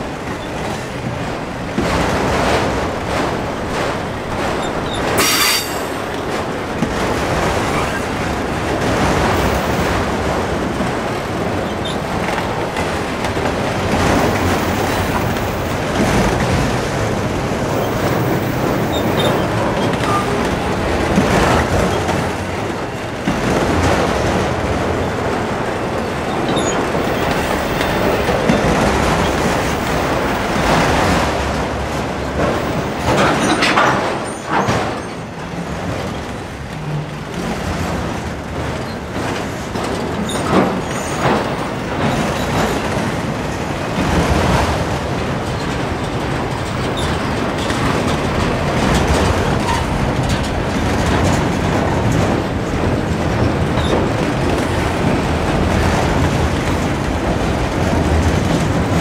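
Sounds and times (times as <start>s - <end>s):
freight cars clattering: 0.0s - 59.0s
train wheels rumbling on rails: 0.0s - 59.0s.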